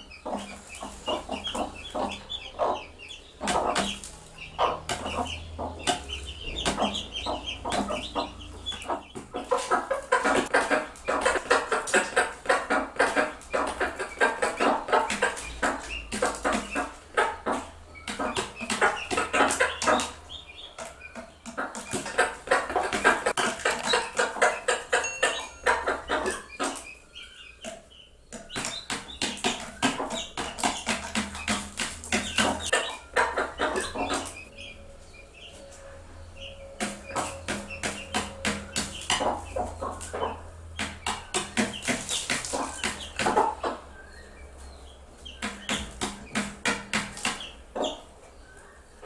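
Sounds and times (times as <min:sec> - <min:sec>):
chicks peeping: 0:00.0 - 0:49.0
hens clucking: 0:00.0 - 0:49.0.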